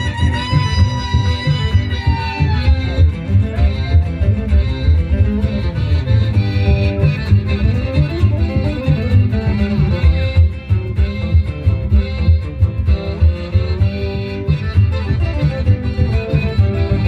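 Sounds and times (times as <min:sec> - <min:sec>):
accordion: 0:00.0 - 0:17.0
guitars: 0:00.0 - 0:17.0
pulsing bass: 0:00.0 - 0:17.0.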